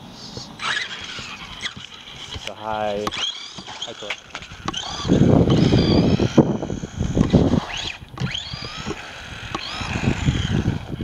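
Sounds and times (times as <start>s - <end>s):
tyre and drivetrain rumbling: 0.3s - 11.0s
electric motor whine: 0.5s - 11.0s.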